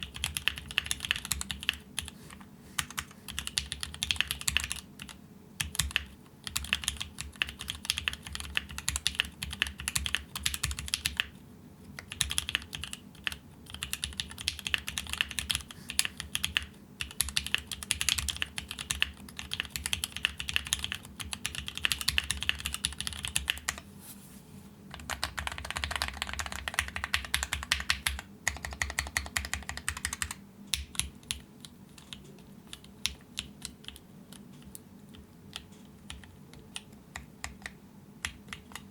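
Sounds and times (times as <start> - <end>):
mechanical keyboard typing: 0.0 - 2.2, 2.8 - 11.3, 12.0 - 23.8, 24.9 - 38.9.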